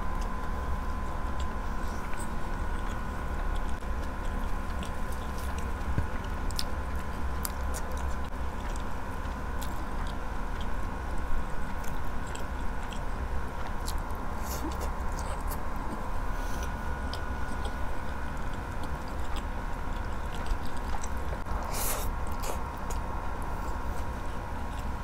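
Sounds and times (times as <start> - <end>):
steady background hum: 0.0 - 25.0
chewing with wet mouth clicks: 0.2 - 25.0.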